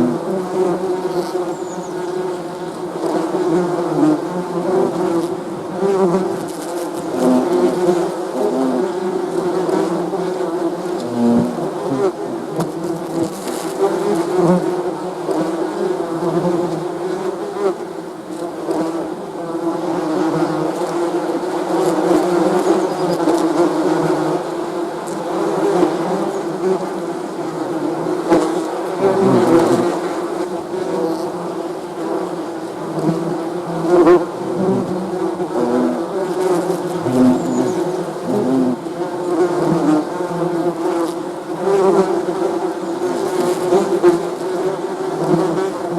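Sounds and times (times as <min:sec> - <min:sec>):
bees buzzing in a drone: 0:00.0 - 0:45.9
single bee buzzing past: 0:00.0 - 0:45.9.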